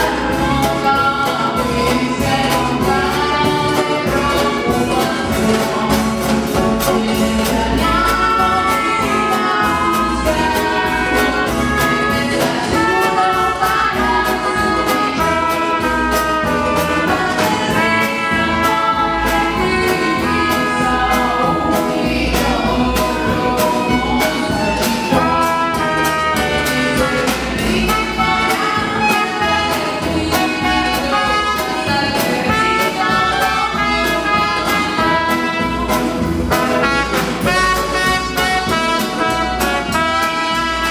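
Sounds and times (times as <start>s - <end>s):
acoustic guitar: 0.0s - 40.9s
upright double bass: 0.0s - 40.9s
woman singing: 0.0s - 40.9s.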